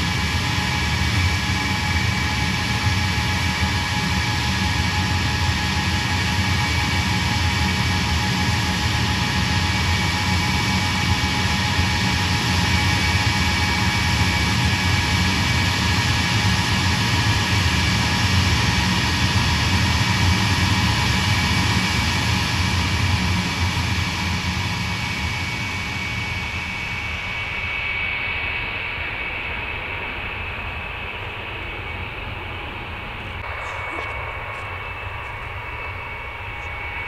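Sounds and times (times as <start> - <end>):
high turbine whine: 0.0 - 37.0
jet engines running: 0.0 - 37.0.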